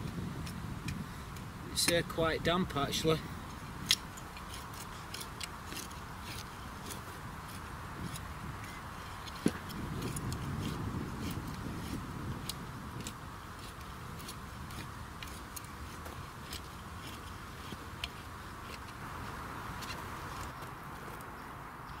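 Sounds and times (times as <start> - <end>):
clicks of grit and stones: 0.4 - 21.4
garden hoe scraping soil: 1.8 - 21.3.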